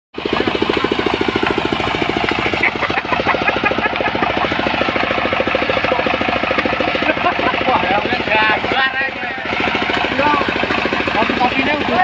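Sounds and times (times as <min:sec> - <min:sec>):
sawmill engine running: 0:00.2 - 0:12.0.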